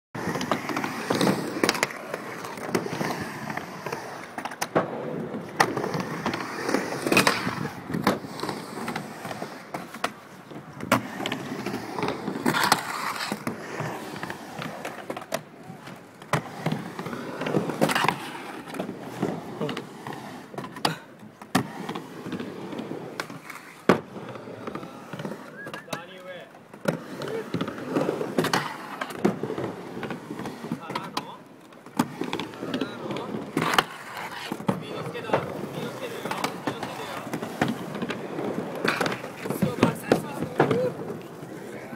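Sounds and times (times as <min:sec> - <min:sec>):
skateboard wheels rolling: 0:00.1 - 0:41.9
skateboard clacks and thuds: 0:00.2 - 0:41.9.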